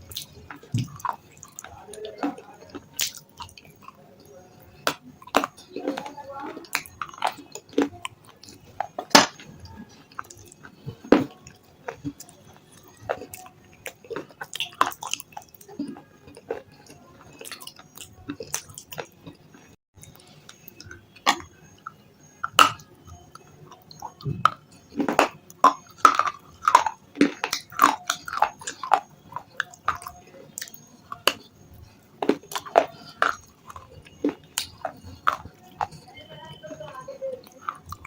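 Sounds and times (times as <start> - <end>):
person crunching hard chips: 4.8 - 19.4, 20.0 - 38.0.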